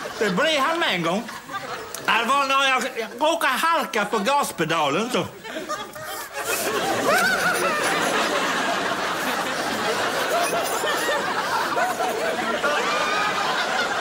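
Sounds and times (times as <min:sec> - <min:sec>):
audience laughing: 0:00.0 - 0:03.2, 0:05.3 - 0:14.0.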